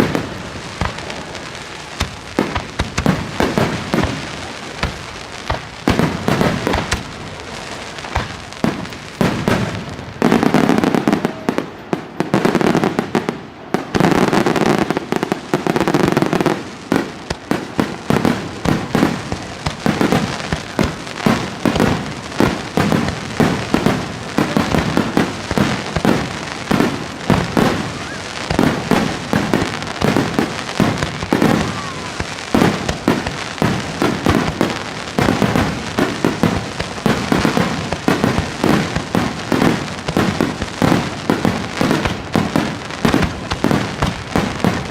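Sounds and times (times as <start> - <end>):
fireworks launching and bursting: 0.0 - 44.9.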